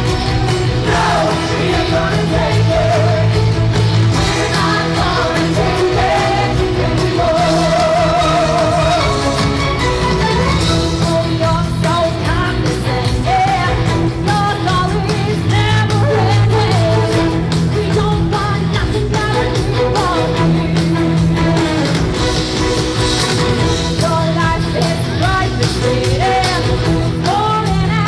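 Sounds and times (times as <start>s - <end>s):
rock and roll song with singing: 0.0s - 28.0s.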